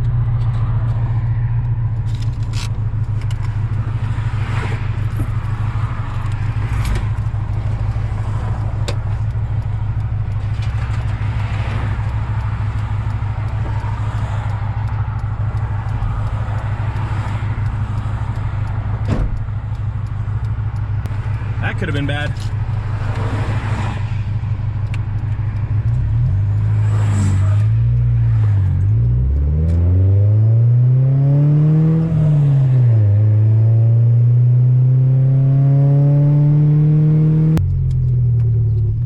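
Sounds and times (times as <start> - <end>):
car engine droning: 0.0 - 39.0
road noise: 0.0 - 39.0.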